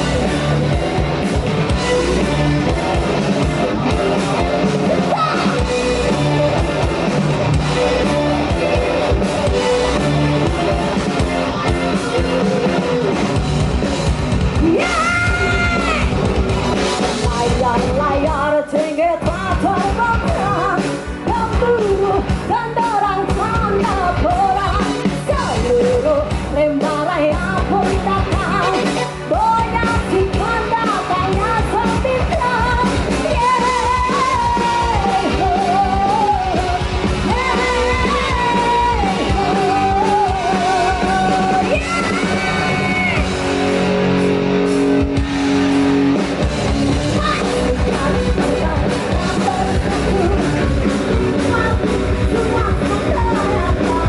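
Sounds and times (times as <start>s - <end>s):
band playing with singer: 0.0s - 54.0s.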